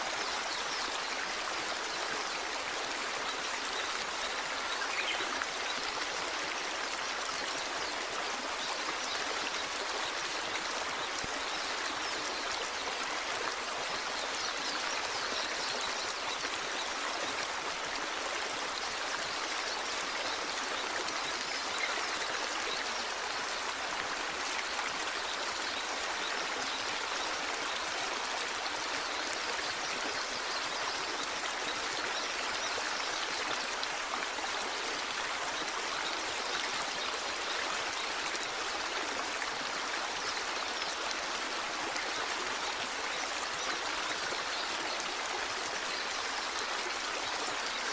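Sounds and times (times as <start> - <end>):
small waterfall rushing: 0.0 - 47.9.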